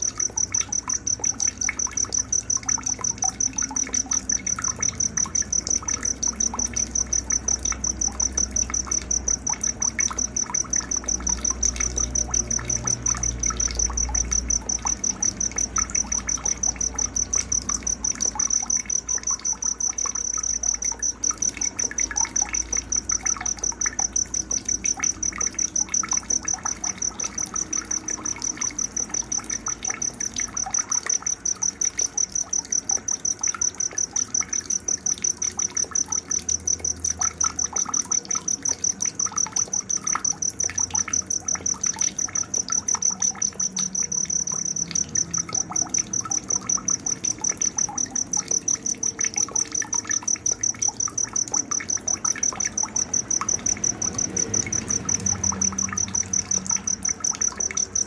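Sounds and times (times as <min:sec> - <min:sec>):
cricket chirping: 0:00.0 - 0:58.0
faint trickle of water: 0:00.0 - 0:58.0.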